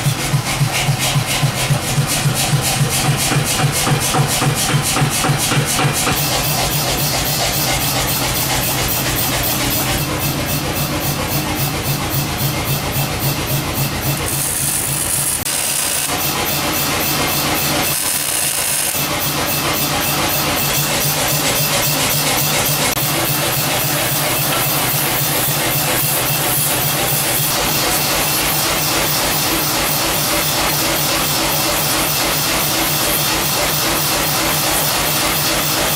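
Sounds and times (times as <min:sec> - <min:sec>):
power tool running: 0:00.1 - 0:35.9.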